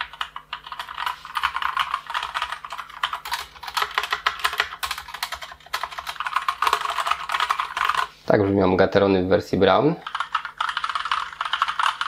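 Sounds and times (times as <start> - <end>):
fast mechanical keyboard typing: 0.0 - 8.1, 10.0 - 12.0.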